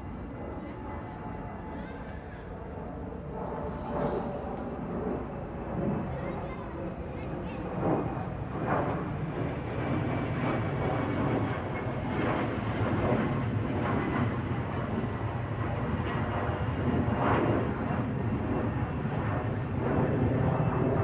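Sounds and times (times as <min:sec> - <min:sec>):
jet airliner rumble overhead: 0:00.0 - 0:21.0.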